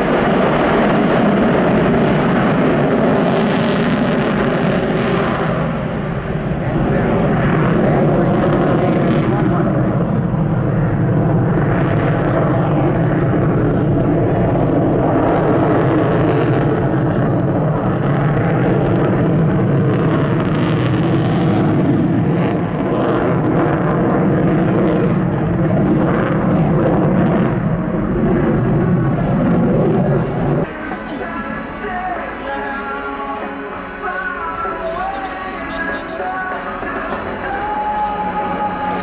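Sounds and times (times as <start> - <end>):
fighter jet engine roaring: 0.0 - 39.0.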